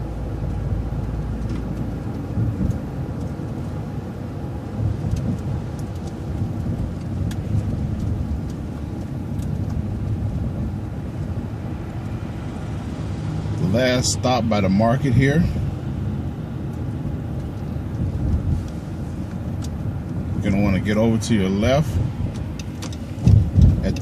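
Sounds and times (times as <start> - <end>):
bus engine and road rumble: 0.0 - 24.0
light rattles and clicks: 0.3 - 12.7, 16.6 - 24.0.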